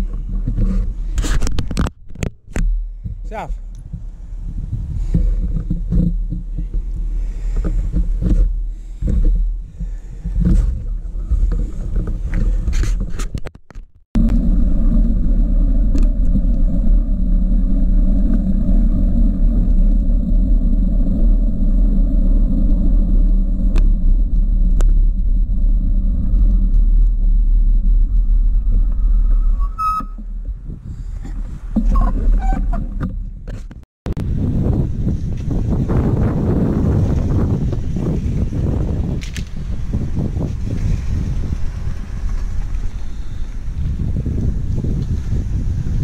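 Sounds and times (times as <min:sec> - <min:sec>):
wind buffeting microphone: 0:00.0 - 0:13.4, 0:14.2 - 0:46.0.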